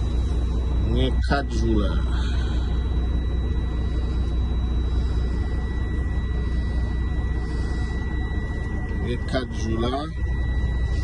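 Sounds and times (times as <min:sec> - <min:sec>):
diesel truck engine idling: 0:00.0 - 0:11.0
faint high whine: 0:00.0 - 0:11.0.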